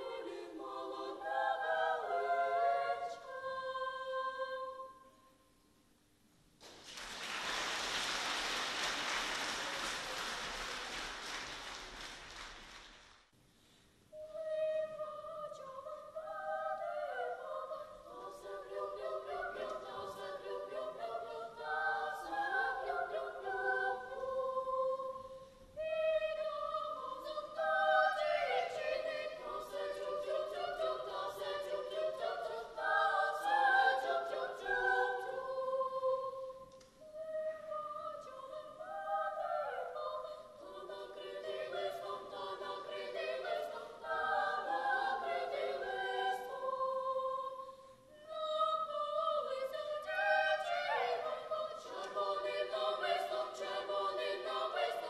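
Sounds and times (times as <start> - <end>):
children's choir singing: 0.0 - 5.1, 14.2 - 55.0.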